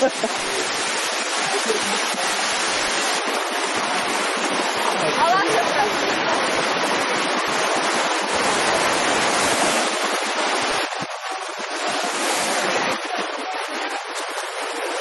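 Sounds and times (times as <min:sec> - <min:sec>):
surf washing up a beach: 0:00.0 - 0:15.0
wind rumbling on microphone: 0:00.0 - 0:15.0.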